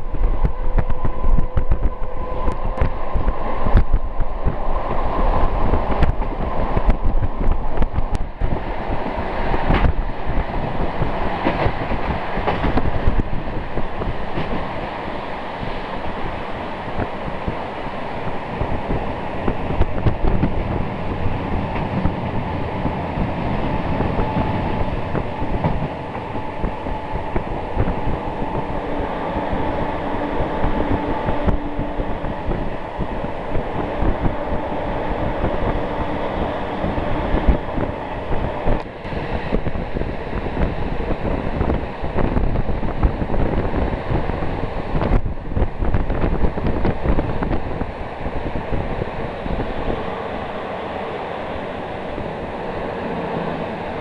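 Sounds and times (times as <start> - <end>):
rail clacks: 0.0 - 54.0
train wheels rumbling: 0.0 - 54.0.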